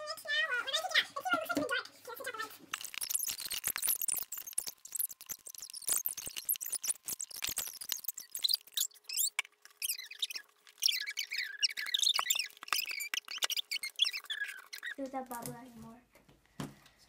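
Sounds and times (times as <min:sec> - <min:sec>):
slime squeaky chirps: 0:00.6 - 0:15.1.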